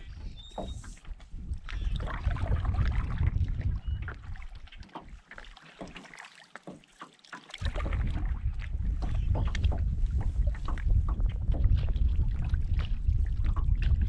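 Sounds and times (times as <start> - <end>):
wind rumbling on microphone: 0.0 - 5.2, 7.6 - 14.0
water lapping against canoe hull: 0.0 - 14.0.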